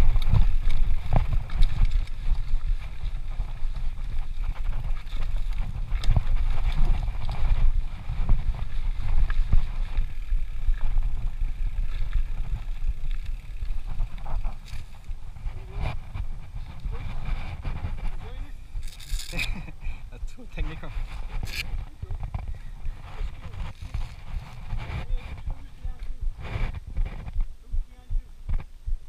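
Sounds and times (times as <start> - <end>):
bike rattling over rocks: 0.0 - 19.8, 20.7 - 27.4
tyres rumbling on dirt trail: 0.0 - 28.8
wind buffeting microphone: 0.0 - 29.0.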